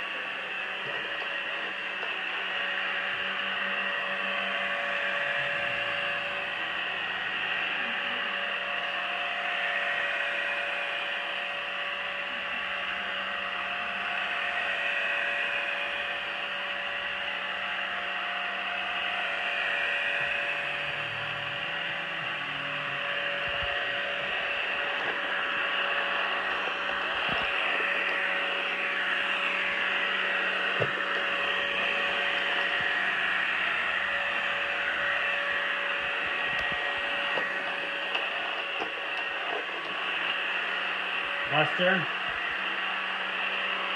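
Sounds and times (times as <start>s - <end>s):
robot vacuum motor whirring: 0.0s - 43.9s.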